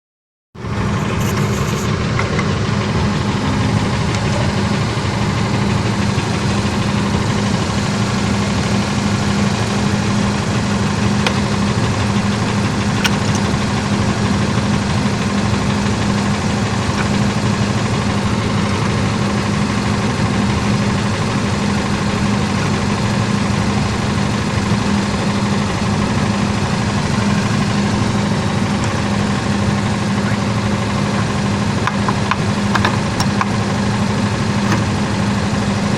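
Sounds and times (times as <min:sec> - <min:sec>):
engine idling: 0:00.6 - 0:35.9.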